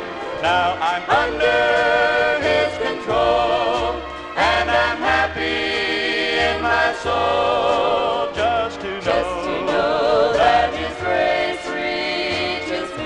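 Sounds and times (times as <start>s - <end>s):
gospel singing: 0.2s - 13.0s.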